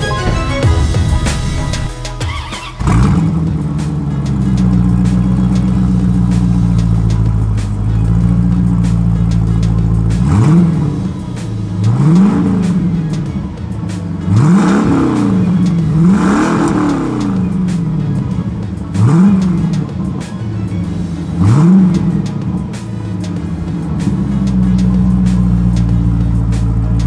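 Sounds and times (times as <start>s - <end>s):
car engine revving: 0.2s - 27.0s.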